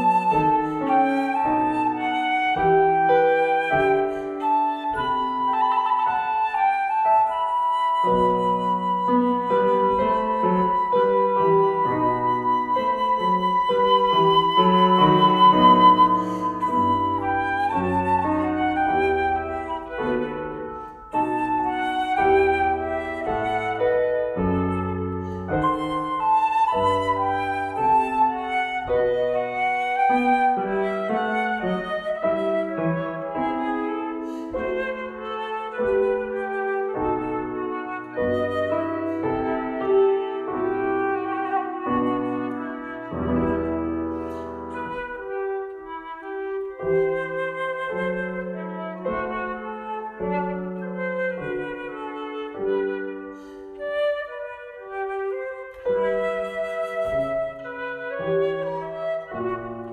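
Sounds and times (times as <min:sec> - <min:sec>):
flute playing a melody: 0:00.0 - 0:59.9
keyboard accompaniment: 0:00.0 - 0:59.9.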